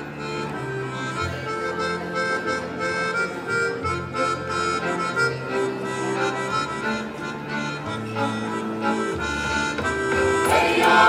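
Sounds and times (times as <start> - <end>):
accordion playing folk tune: 0.0 - 11.0.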